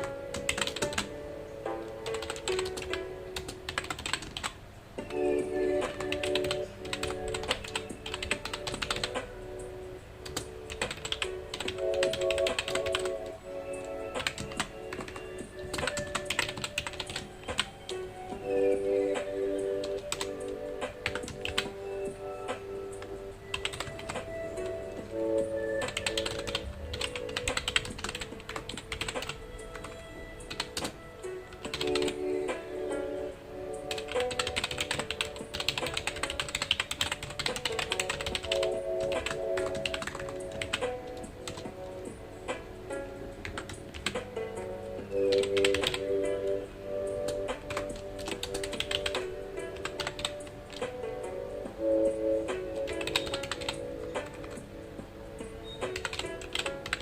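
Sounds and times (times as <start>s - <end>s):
typing on keyboard: 0.0s - 1.2s, 1.9s - 9.3s, 10.2s - 18.0s, 19.2s - 32.3s, 33.9s - 42.1s, 43.4s - 46.6s, 47.2s - 51.1s, 52.5s - 54.7s, 55.6s - 57.0s
soft background music: 0.0s - 57.0s.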